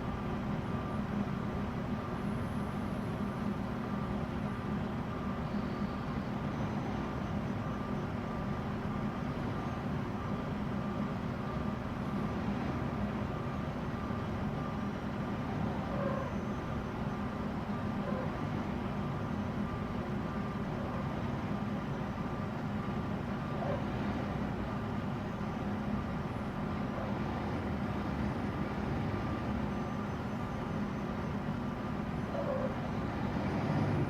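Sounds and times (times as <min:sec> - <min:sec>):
truck engine droning: 0:00.0 - 0:34.0.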